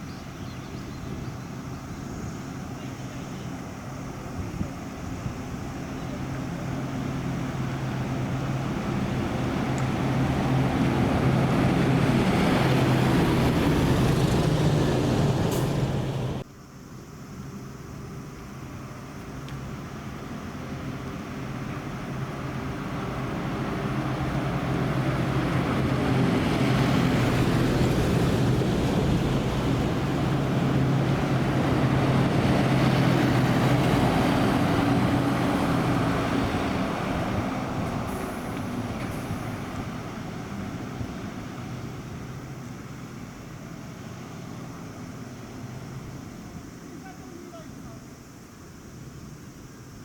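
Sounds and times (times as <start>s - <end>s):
bus diesel engine passing: 0.0s - 16.8s, 17.4s - 50.0s
road noise: 0.0s - 50.0s.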